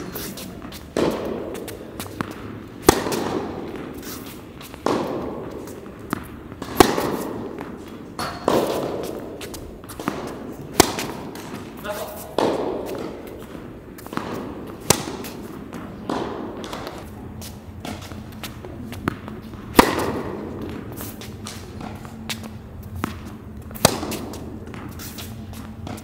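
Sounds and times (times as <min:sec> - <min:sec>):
tennis ball struck by rackets: 0:00.0 - 0:26.0
ball bouncing on hard court: 0:00.4 - 0:26.0.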